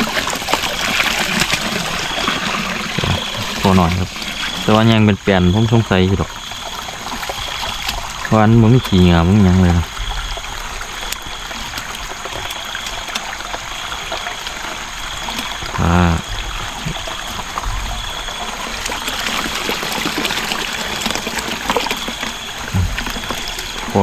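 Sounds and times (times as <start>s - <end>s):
wet rustles and splashes: 0.0s - 5.0s, 5.7s - 24.0s
water trickling at a drain: 0.0s - 24.0s.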